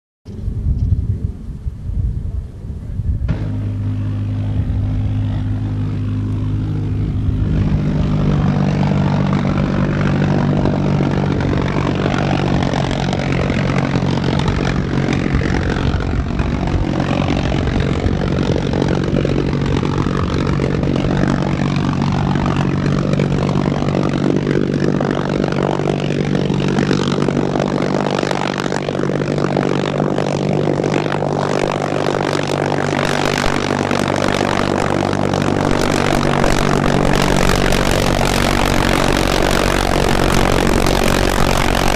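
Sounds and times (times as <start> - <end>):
pulse jet buzzing drone: 3.0 - 41.9.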